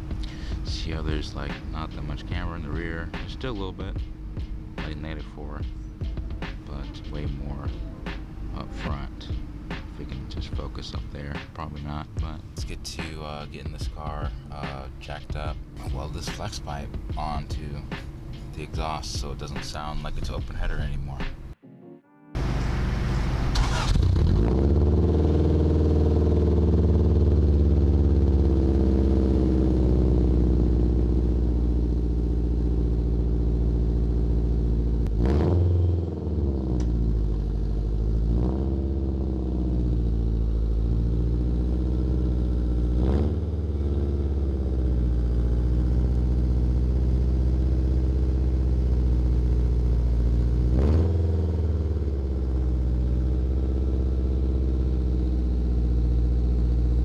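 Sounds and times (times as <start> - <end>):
car engine running with loud exhaust: 0.0 - 21.6, 22.4 - 57.0.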